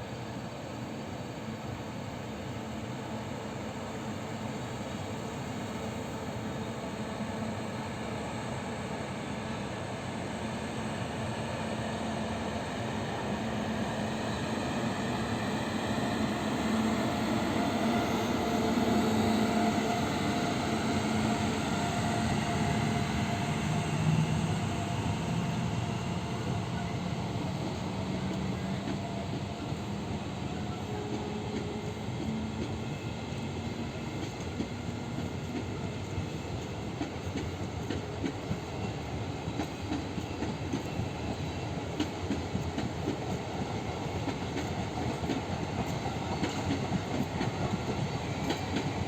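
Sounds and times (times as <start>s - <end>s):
train running on rails: 0.0s - 49.0s.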